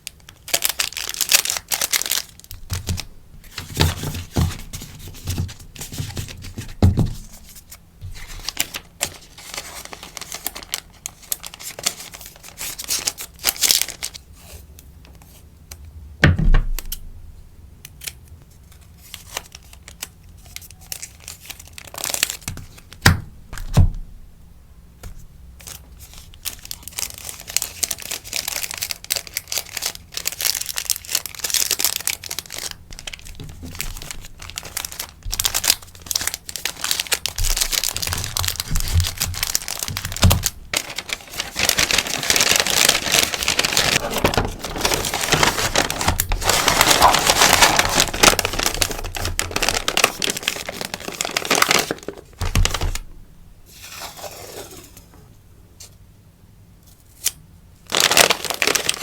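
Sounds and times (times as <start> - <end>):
packaging tearing: 0.0 - 14.2, 19.0 - 23.0, 25.6 - 53.1, 57.2 - 59.0
packaging crinkling: 0.0 - 14.3, 18.0 - 23.0, 25.6 - 53.1, 57.8 - 59.0.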